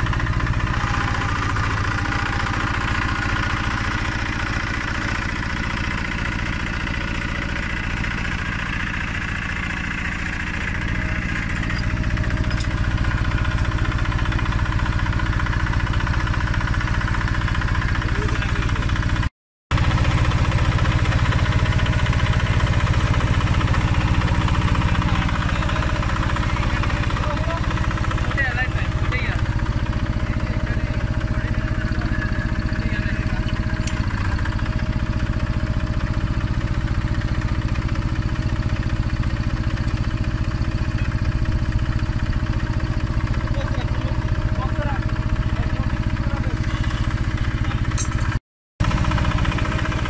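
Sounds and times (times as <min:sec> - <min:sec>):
drilling rig engine running: 0:00.0 - 0:50.0.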